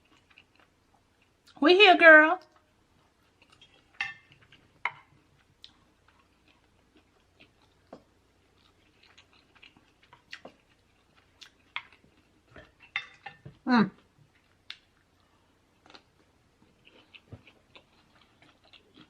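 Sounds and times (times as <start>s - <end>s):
chewing food: 0.0s - 1.6s, 2.4s - 19.0s.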